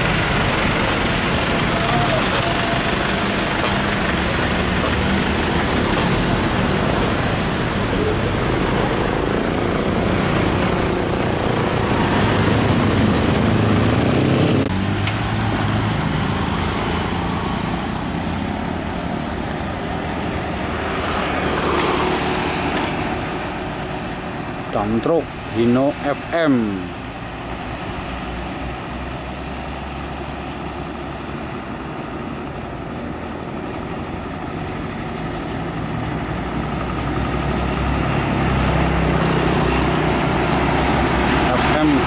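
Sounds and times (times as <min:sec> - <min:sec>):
dump truck approaching: 0:00.0 - 0:42.0
road traffic hum: 0:00.0 - 0:42.0.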